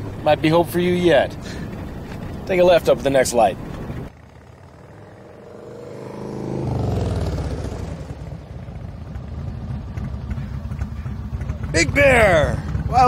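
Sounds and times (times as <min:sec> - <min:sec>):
low engine rumble: 0:00.0 - 0:13.0
motorcycle engines approaching: 0:00.0 - 0:13.0.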